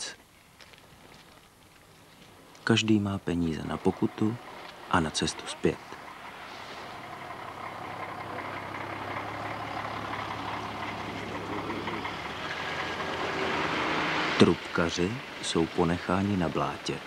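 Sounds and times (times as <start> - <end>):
bus diesel engine droning: 2.6 - 17.0.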